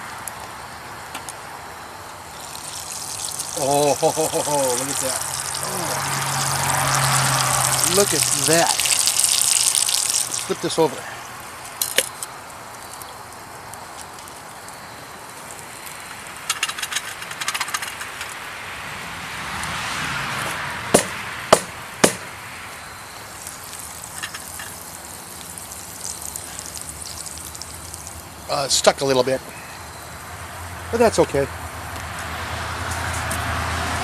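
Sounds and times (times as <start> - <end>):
campfire crackling and hissing: 0.0 - 34.0.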